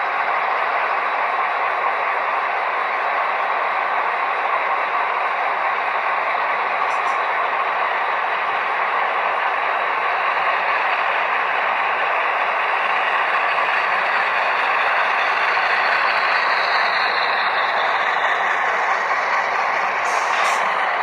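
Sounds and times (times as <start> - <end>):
model train wheels rumbling on rail: 0.0 - 21.0.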